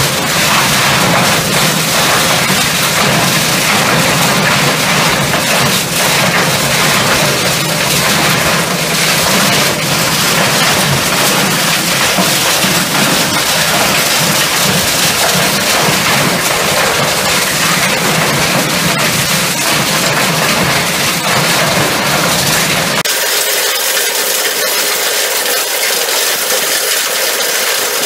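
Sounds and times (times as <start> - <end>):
hammer mill smashing electronics: 0.0 - 28.0
machine hum: 0.0 - 28.0.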